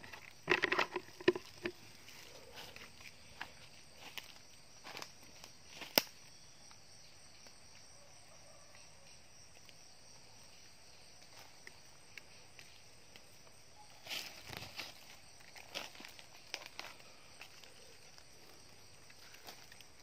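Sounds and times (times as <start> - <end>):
night insects chorus: 0.0 - 20.0.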